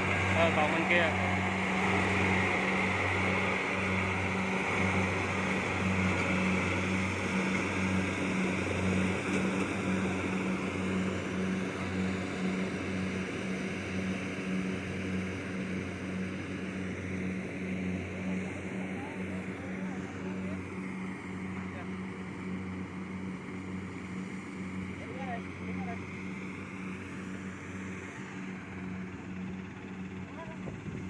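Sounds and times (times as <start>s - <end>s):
combine harvester diesel engine: 0.0s - 31.0s.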